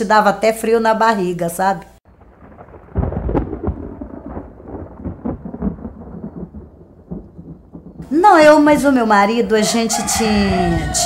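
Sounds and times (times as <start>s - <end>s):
thunder rumbling: 2.0s - 11.0s.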